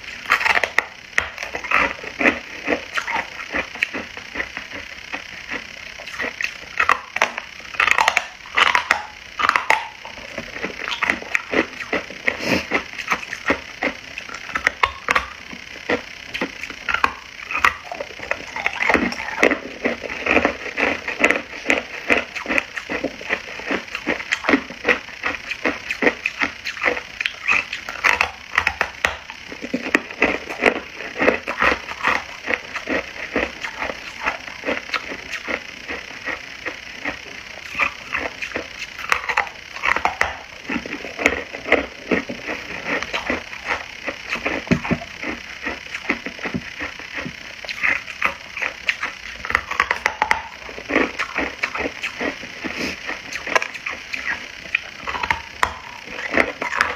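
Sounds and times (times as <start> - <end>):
ice being chewed: 0.0 - 56.9.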